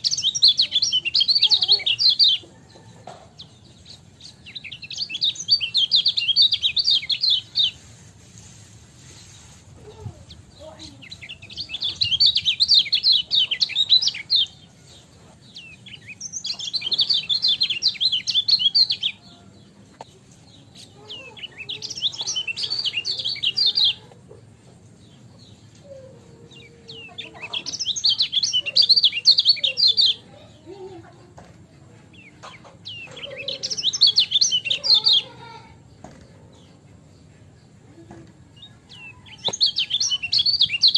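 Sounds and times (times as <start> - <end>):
bird chattering song: 0.0 - 7.9, 9.8 - 14.7, 15.3 - 31.2, 31.9 - 40.9.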